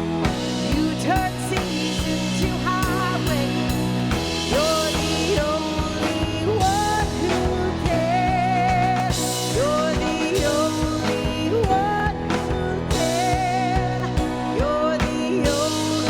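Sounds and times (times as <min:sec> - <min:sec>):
worship band music: 0:00.0 - 0:16.0.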